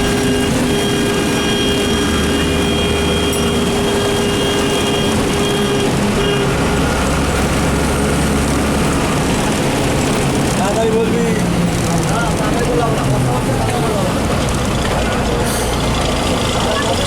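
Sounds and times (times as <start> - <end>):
bus engine running: 0.0 - 17.0
heavy rain: 0.0 - 17.0
road noise: 0.0 - 17.0.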